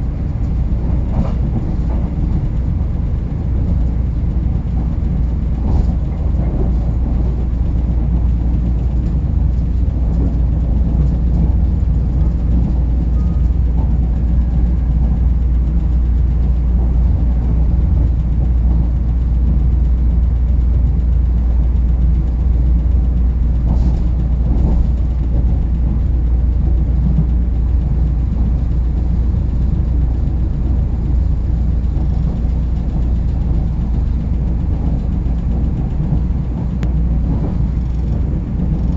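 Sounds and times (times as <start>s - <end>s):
passenger train rumbling on track: 0.0s - 38.9s.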